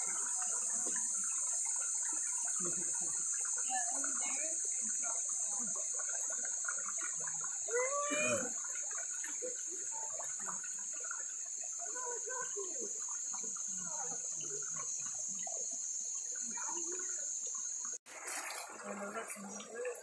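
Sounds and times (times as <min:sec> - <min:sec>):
creek water babbling over rocks: 0:00.0 - 0:20.0
faint distant voices: 0:00.0 - 0:20.0.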